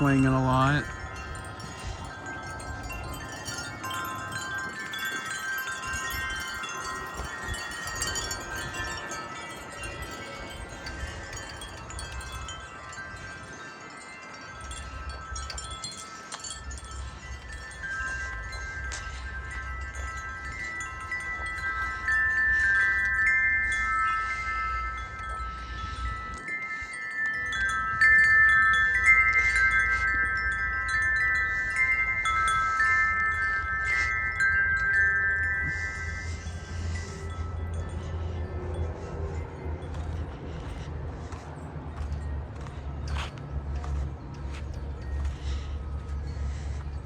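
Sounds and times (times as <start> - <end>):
low rumble of wind: 0.0 - 47.0
wind chimes ringing: 0.0 - 47.0.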